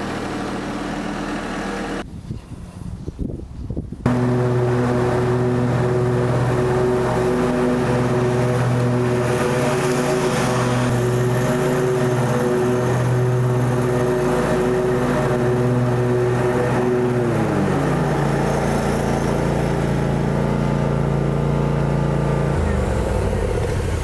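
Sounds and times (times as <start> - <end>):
ride-on mower engine running: 0.0 - 2.0, 4.1 - 24.0.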